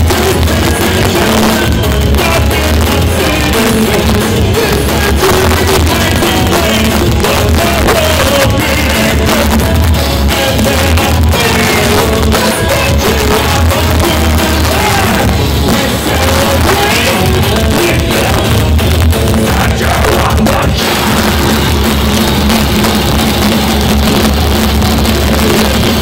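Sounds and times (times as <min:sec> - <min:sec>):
singer's vocals: 0:00.0 - 0:22.3, 0:24.2 - 0:26.0
distorted electric guitars: 0:00.0 - 0:26.0
pounding drum kit: 0:00.0 - 0:26.0.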